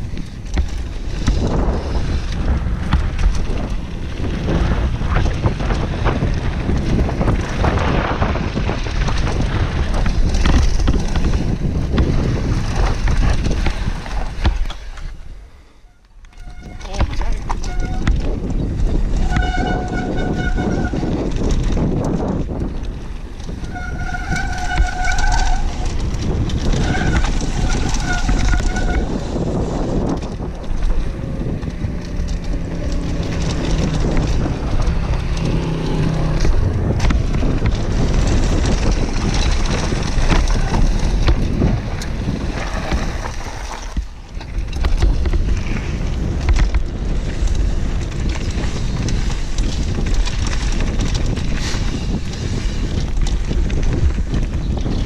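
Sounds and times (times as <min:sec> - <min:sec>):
wind buffeting microphone: 0:00.0 - 0:15.6, 0:16.4 - 0:55.0
bike rattling over bumps: 0:00.0 - 0:55.0
tyres on dirt and gravel: 0:00.0 - 0:55.0.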